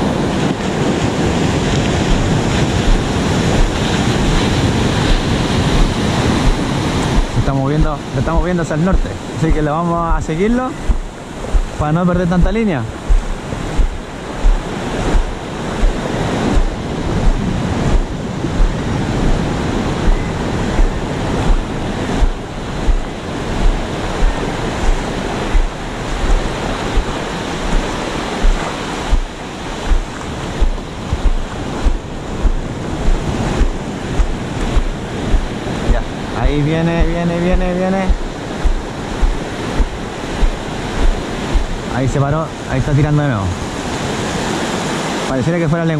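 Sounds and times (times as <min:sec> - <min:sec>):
footsteps on wet sand: 0:00.0 - 0:41.9
wind buffeting microphone: 0:00.0 - 0:45.3
surf breaking on beach: 0:00.0 - 0:45.9.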